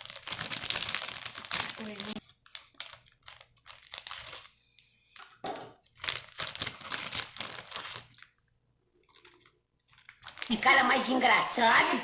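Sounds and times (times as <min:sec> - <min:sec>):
packaging crinkling: 0:00.0 - 0:08.4, 0:09.0 - 0:10.7.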